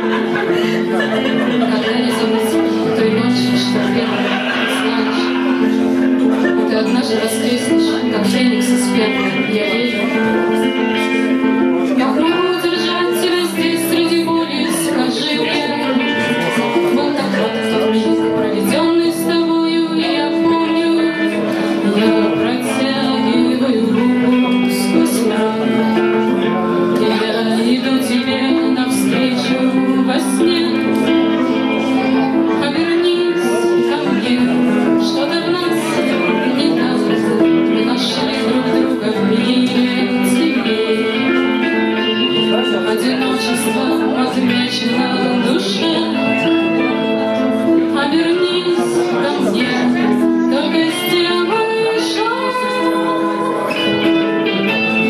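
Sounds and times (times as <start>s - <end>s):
song with guitar and singing: 0.0s - 55.0s.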